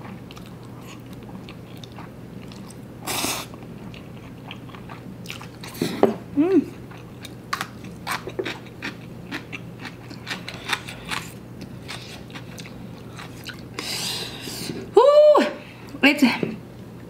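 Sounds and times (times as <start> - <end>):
person chewing and crunching food: 0.0 - 6.0, 6.7 - 14.8.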